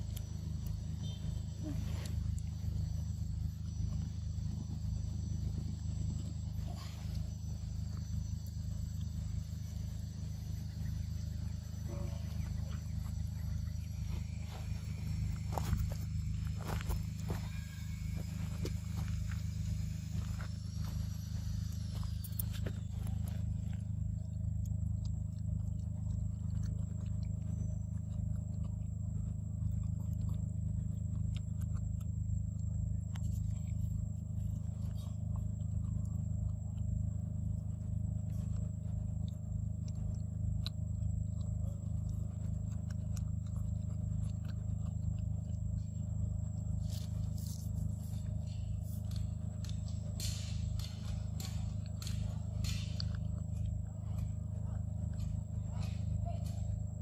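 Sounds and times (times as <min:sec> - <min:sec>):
monkey biting and chewing: 0:00.0 - 0:57.0
steady low hum: 0:00.0 - 0:57.0.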